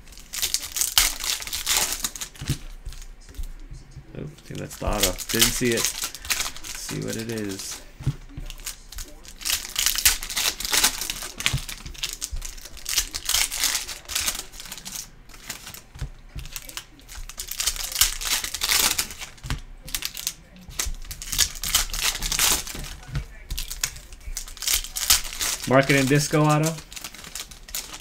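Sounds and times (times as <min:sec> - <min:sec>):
cards being shuffled: 0:00.0 - 0:28.0
foil wrappers crinkling: 0:00.0 - 0:28.0.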